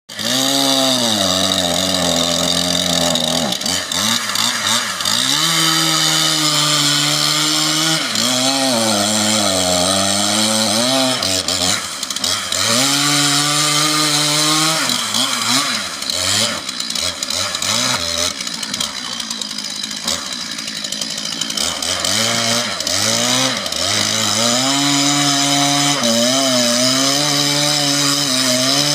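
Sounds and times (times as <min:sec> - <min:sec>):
chainsaw cutting wood: 0:00.1 - 0:28.9.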